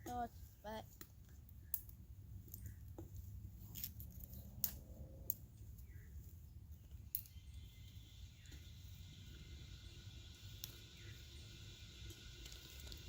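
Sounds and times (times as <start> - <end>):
wood crackling and popping: 0.0 - 13.0
fire rumbling in chimney: 1.7 - 13.0.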